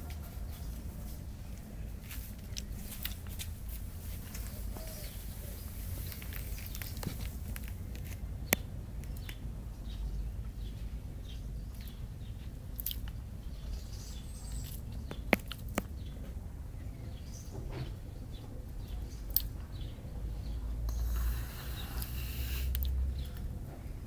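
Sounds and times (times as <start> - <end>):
steady low rumble: 0.0 - 24.0
sparrows chirping: 0.2 - 7.7, 8.3 - 23.6.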